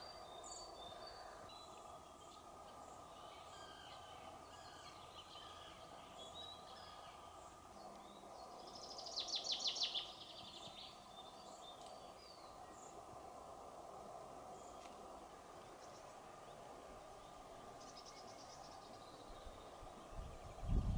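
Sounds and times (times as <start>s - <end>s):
songbird trill: 0.0s - 13.4s, 14.4s - 20.9s
faint steady hum: 0.0s - 20.9s.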